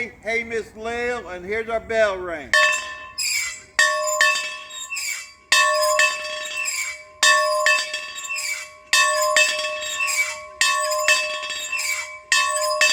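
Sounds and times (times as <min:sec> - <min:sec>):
metal bell ringing: 0:02.5 - 0:12.9.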